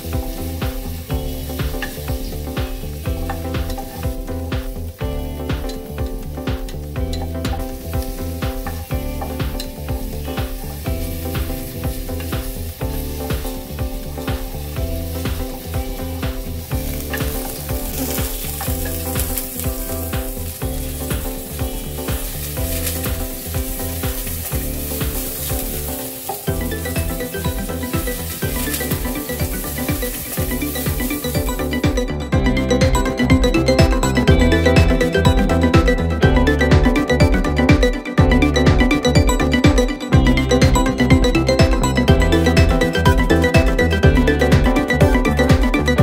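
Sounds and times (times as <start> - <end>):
garlic and onion sizzling in oil: 0.0 - 37.6
background music: 0.0 - 46.0.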